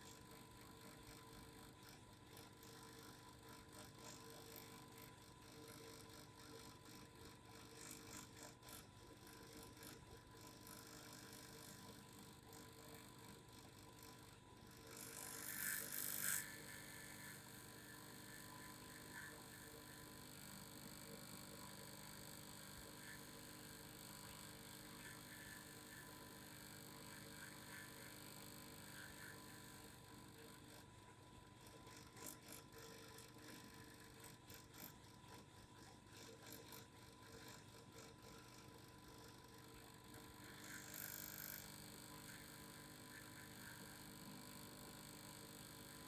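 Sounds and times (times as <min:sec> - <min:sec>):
faint vibrating hum: 0:00.0 - 0:46.0.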